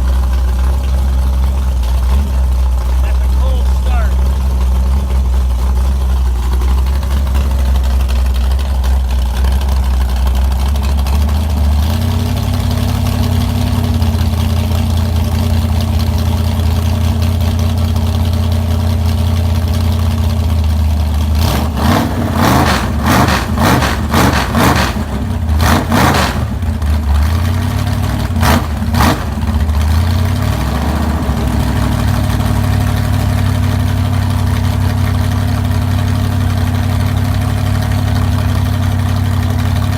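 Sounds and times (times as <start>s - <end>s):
car engine idling: 0.0s - 39.9s
engine throttle blips: 0.0s - 39.9s.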